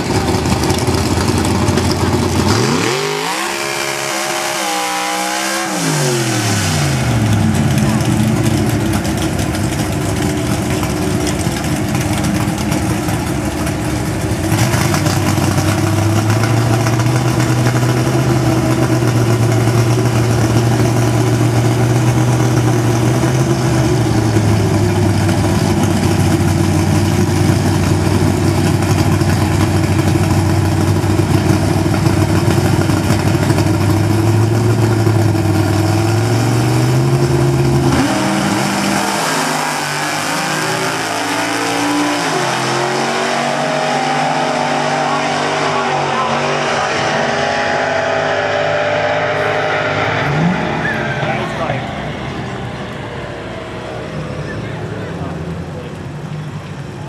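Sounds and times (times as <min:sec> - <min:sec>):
race car engines idling: 0:00.0 - 0:04.7, 0:06.2 - 0:57.0.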